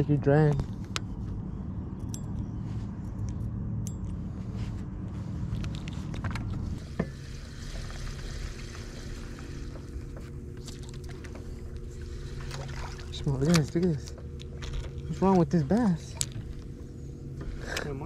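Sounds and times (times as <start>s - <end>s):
low rumble: 0.0s - 18.0s
steady hum: 0.0s - 18.0s.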